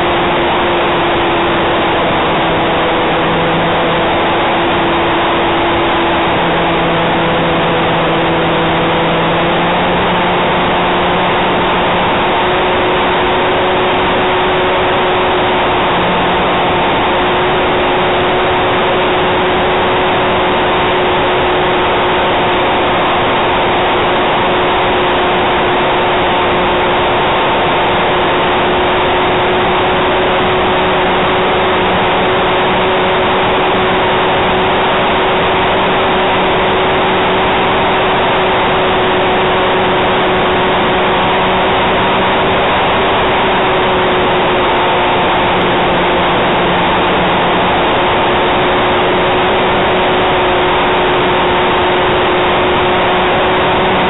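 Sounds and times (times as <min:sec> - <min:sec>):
model plane propeller drone: 0:00.0 - 0:54.0.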